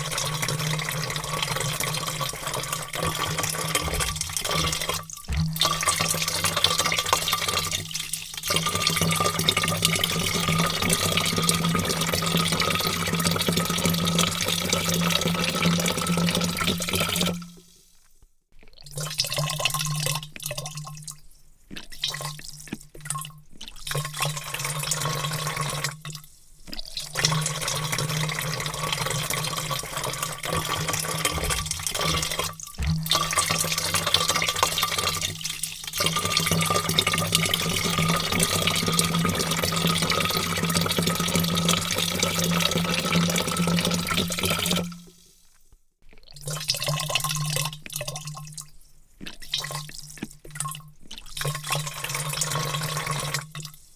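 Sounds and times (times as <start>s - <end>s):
water pouring into a vat: 0.0s - 53.9s.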